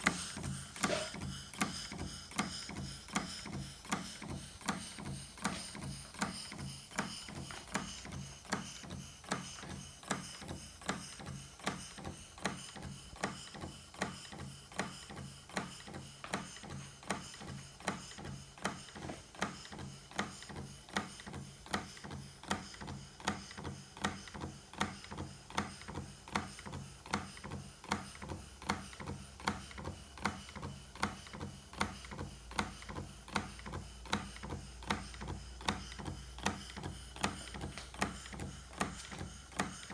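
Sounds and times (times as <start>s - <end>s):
steam engine clicking beat: 0.0s - 39.9s.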